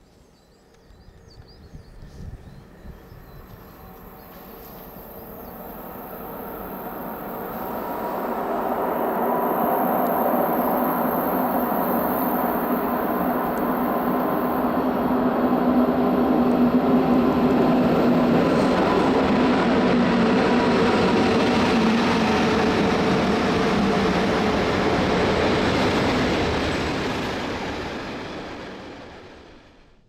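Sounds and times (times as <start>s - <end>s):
train wheels rumbling on rails: 0.9s - 30.0s.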